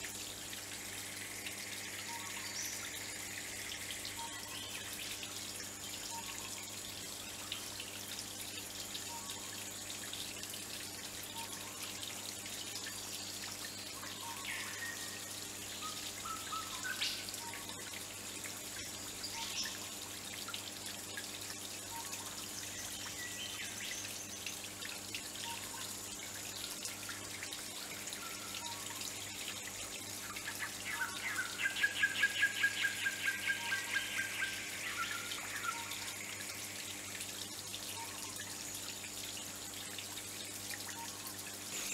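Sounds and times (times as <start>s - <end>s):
small waterfall trickling over rocks: 0.0s - 41.9s.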